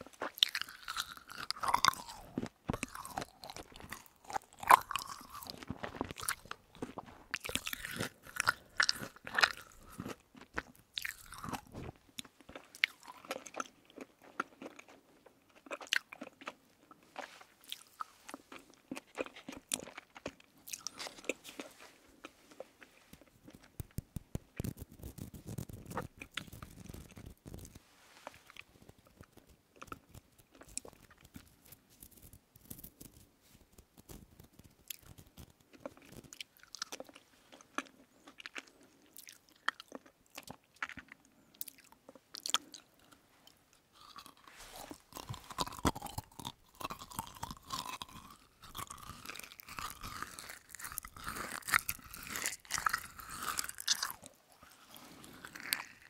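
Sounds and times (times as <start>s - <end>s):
chewing soft candy: 0.0s - 56.0s
fingers handling candy: 0.0s - 56.0s.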